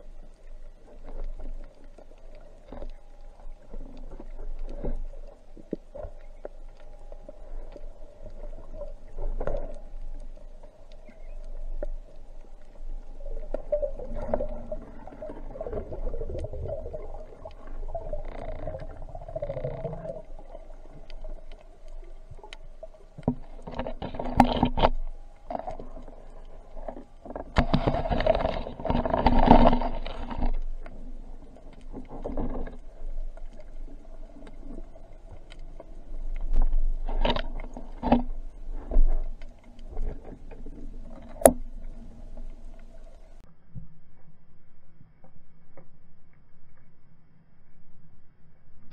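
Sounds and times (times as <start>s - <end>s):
rushes of water: 0.0s - 43.5s
low underwater hum: 0.0s - 48.9s.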